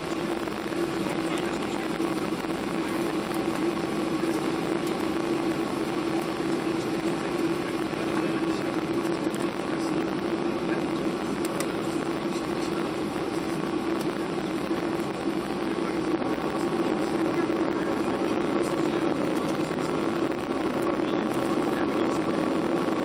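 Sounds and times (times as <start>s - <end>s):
airplane cabin engine rush: 0.0s - 23.0s
low hum: 0.0s - 23.0s.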